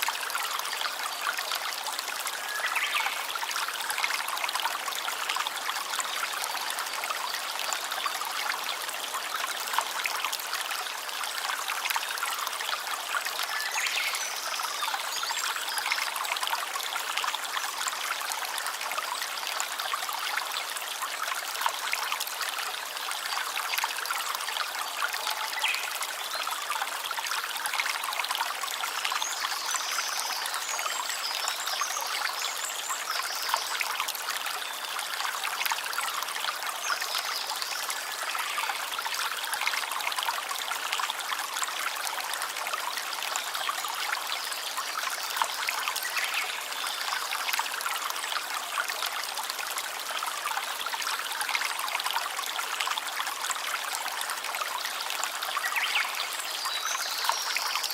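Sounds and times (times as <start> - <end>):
stream trickling over stones: 0.0 - 57.9.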